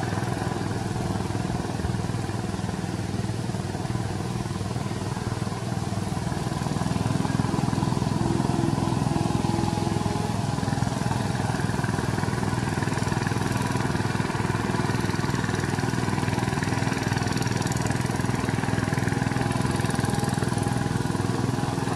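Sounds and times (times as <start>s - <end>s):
diesel engine running under load: 0.0s - 21.9s.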